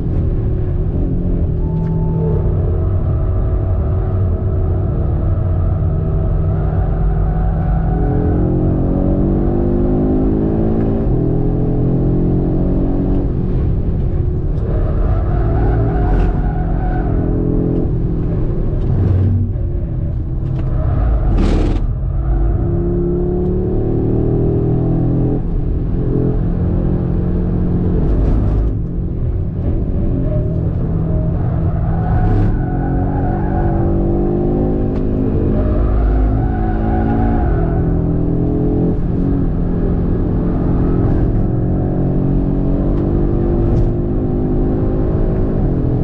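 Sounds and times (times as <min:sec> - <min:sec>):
car engine revving through gears: 0:00.0 - 0:46.0.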